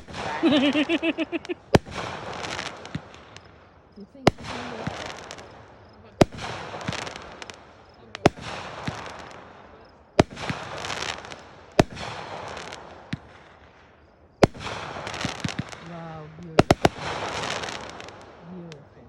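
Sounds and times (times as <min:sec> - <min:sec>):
fireworks bangs: 0:00.0 - 0:19.0
fireworks crackling and fizzing: 0:00.0 - 0:19.0.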